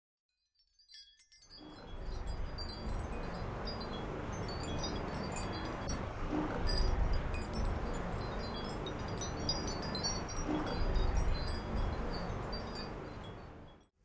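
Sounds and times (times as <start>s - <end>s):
high-pitched chime tinkling: 0.5s - 13.9s
low steady rumble: 1.6s - 13.9s.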